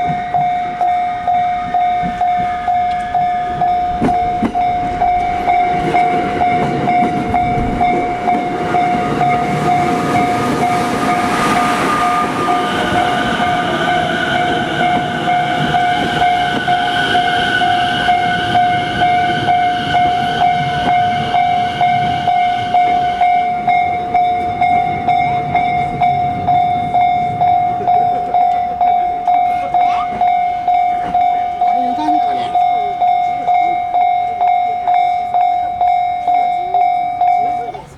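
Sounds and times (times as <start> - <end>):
level-crossing bell dinging: 0.0 - 37.9
train rumble and whine: 0.0 - 37.9.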